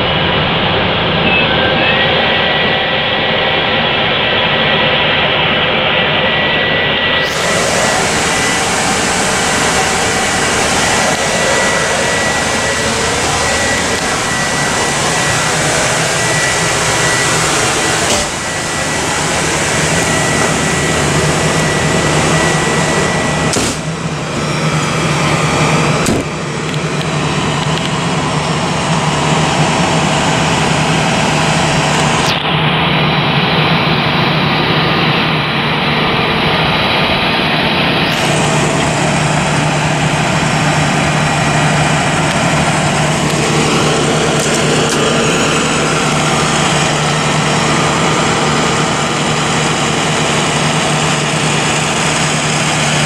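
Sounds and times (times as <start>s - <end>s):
blower high whine: 0.0s - 53.0s
vehicle rush and hum: 0.0s - 53.0s
engine idling low hum: 7.1s - 53.0s.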